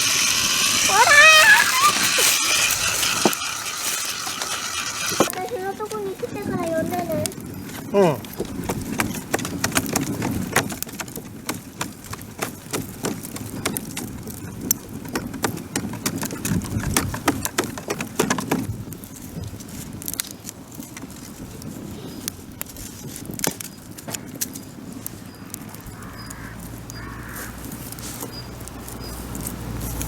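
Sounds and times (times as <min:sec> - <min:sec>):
campfire crackling and popping: 0:00.0 - 0:30.0
low fire rumble: 0:00.0 - 0:30.0.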